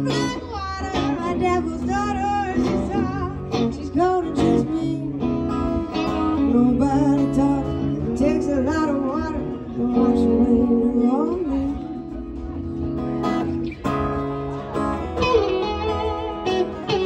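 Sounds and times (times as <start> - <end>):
electric guitar lead lines: 0.0 - 17.0
strummed acoustic guitar: 0.0 - 17.0.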